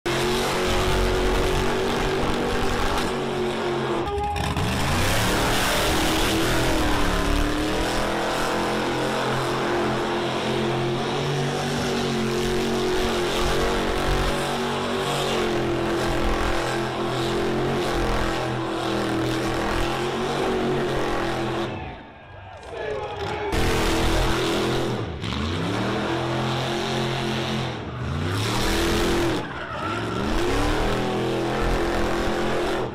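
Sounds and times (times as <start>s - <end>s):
car engine revving high: 0.1s - 21.8s, 23.5s - 32.9s.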